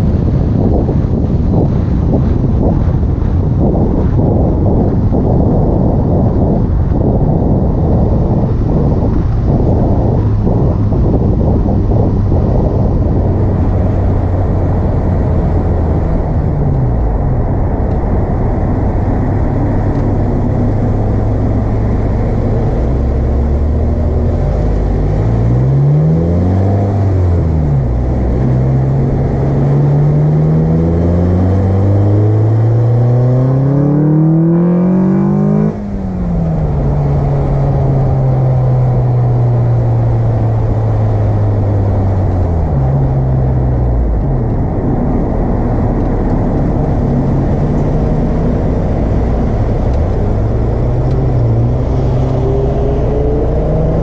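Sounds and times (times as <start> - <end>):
car engine revving: 5.9 - 54.0.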